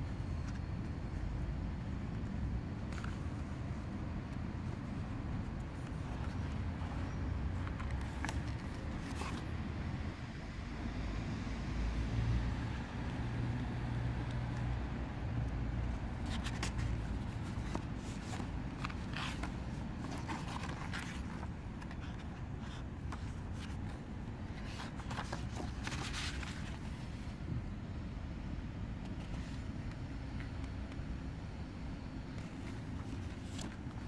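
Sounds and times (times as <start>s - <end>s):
book pages turning: 0.1s - 10.2s, 12.5s - 27.5s, 28.9s - 34.0s.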